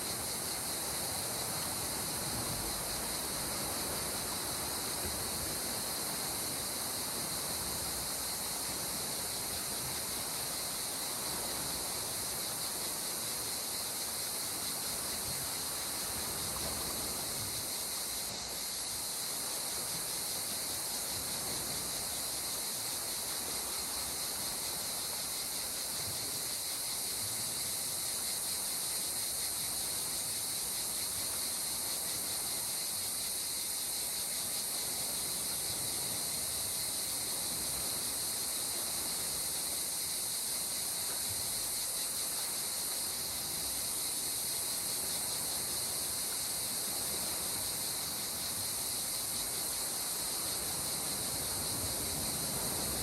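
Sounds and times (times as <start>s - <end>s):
insect chorus drone: 0.0s - 53.0s
soft constant hiss: 0.0s - 53.0s.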